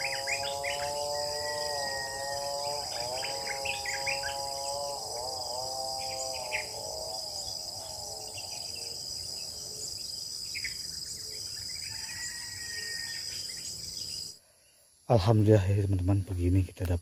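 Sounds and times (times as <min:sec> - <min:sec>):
bird calls: 0:00.0 - 0:14.9
insects chirring: 0:00.0 - 0:17.0.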